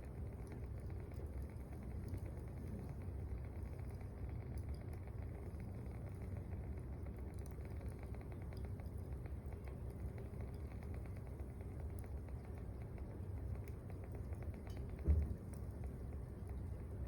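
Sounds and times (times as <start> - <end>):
wood fire crackling in a stove: 0.0 - 17.0.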